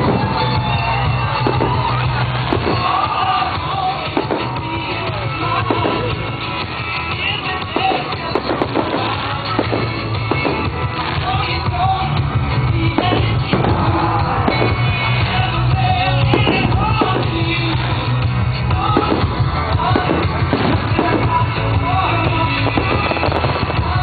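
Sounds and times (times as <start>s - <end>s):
firework bangs: 0.0s - 24.0s
song with singing: 0.0s - 24.0s.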